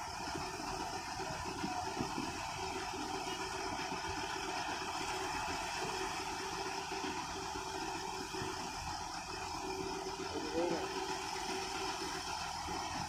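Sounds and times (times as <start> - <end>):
combine harvester engine running: 0.0 - 13.0.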